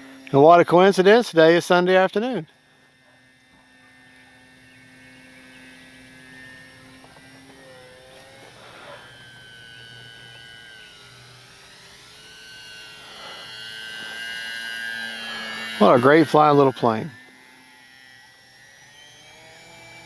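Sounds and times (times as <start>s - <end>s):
electric model plane motor whining: 0.0s - 20.0s.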